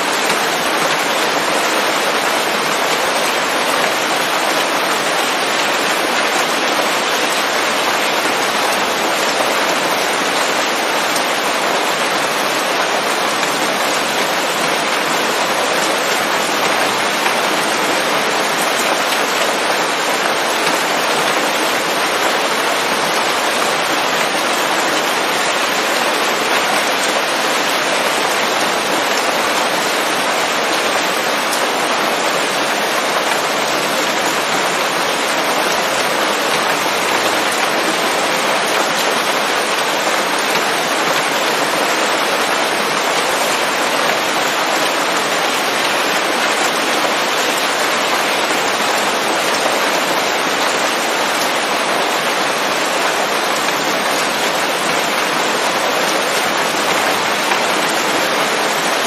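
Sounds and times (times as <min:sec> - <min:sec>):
rain on leaves: 0:00.0 - 0:59.0.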